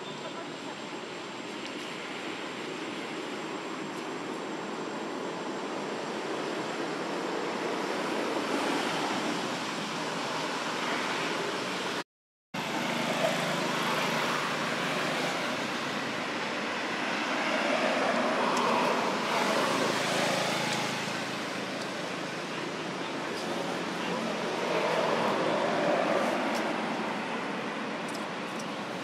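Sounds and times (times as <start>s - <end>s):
outdoor background rush: 0.0s - 12.0s, 12.6s - 29.0s.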